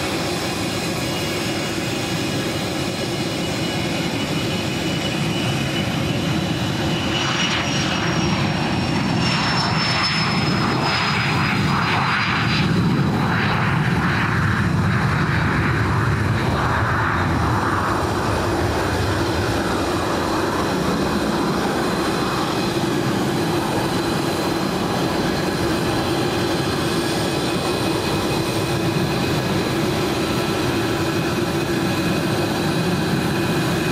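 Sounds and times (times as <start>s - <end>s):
high jet whine: 0.0s - 33.9s
jet engine roar: 0.0s - 33.9s.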